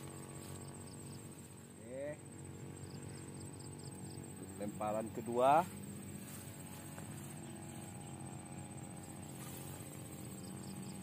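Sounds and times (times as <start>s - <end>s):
high-pitched insect trill: 0.0s - 11.0s
low hum: 0.0s - 11.0s.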